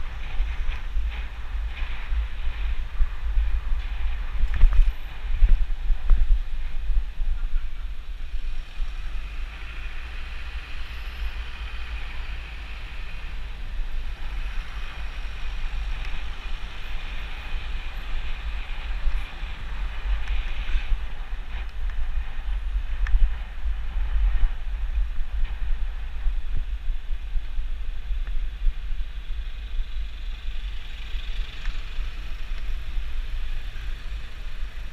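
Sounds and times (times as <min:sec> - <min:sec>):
tyre and road noise: 0:00.0 - 0:34.9
wind buffeting microphone: 0:00.0 - 0:34.9.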